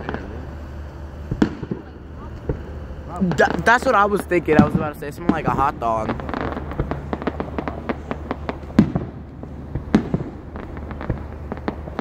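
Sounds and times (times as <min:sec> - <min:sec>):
firecrackers popping: 0:00.0 - 0:00.4, 0:01.2 - 0:12.0
loud firework bangs: 0:01.2 - 0:12.0.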